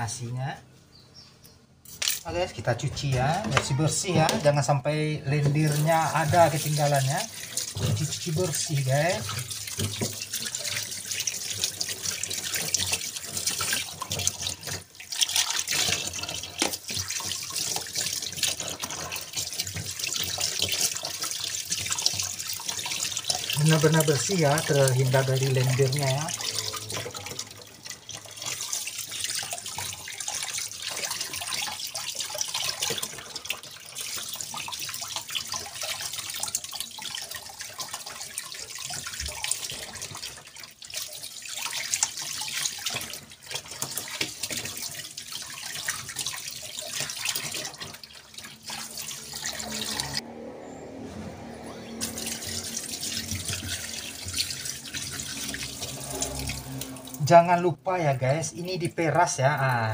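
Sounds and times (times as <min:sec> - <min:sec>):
tap water splashing into sink: 0:02.8 - 0:04.6, 0:05.4 - 0:50.2, 0:52.0 - 0:57.2.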